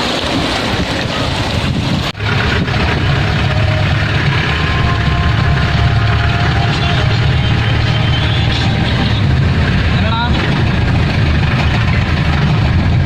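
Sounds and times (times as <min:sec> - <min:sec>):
rushing wind and water: 0:00.0 - 0:13.0
vehicle engine idling: 0:02.2 - 0:13.0.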